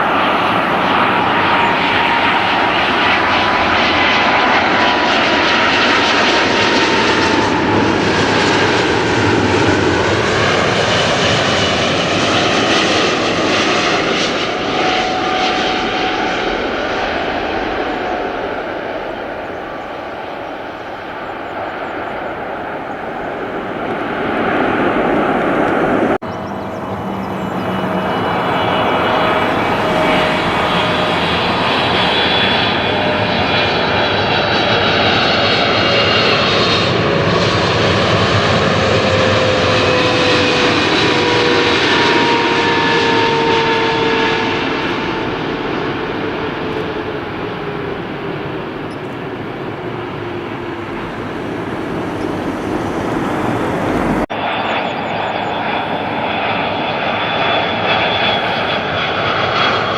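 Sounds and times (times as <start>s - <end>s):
aircraft sound: 0.0s - 59.9s
airliner engines passing: 0.0s - 59.9s.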